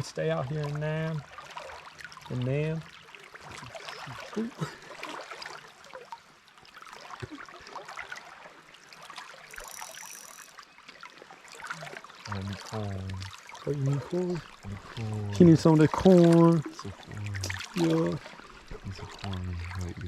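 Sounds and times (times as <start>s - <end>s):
creek water trickling: 0.0s - 20.0s
splashes of wading: 0.0s - 20.0s.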